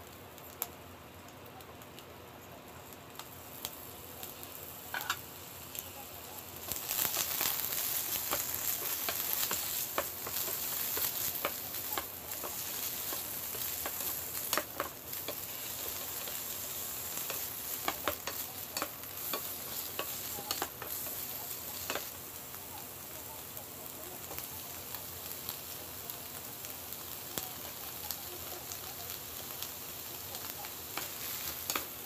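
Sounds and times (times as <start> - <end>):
vegetables sizzling in a frying pan: 0.0 - 32.0.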